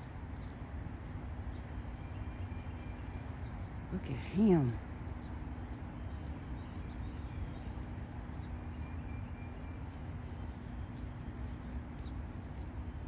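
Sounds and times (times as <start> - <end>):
faint continuous hum: 0.0 - 13.0.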